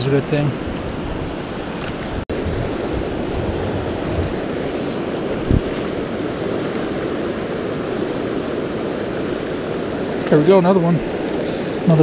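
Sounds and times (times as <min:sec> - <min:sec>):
rushing mountain creek: 0:00.0 - 0:12.0.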